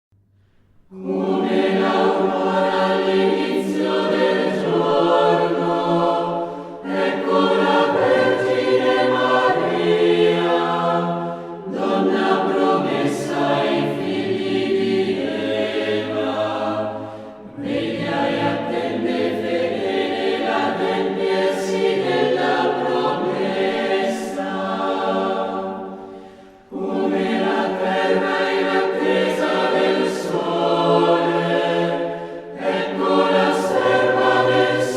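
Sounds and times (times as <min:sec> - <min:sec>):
choir singing sustained chords: 0:00.3 - 0:34.9.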